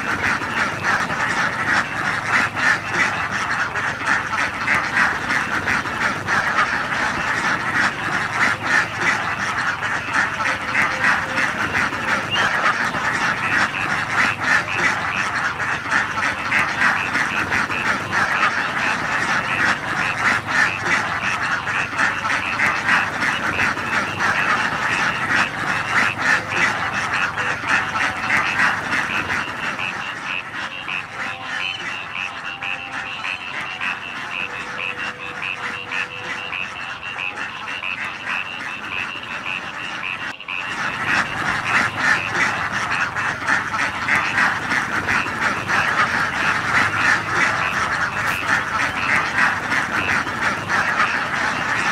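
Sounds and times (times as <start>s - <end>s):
ducks quacking: 0.0s - 51.9s.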